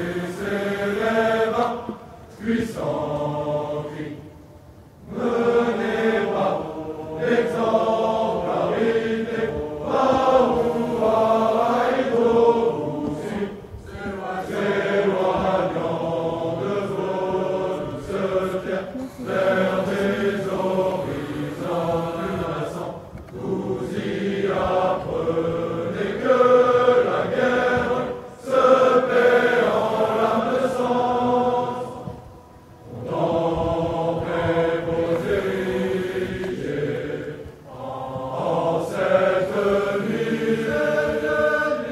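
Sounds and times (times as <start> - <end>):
choir singing a cappella: 0.0 - 41.9.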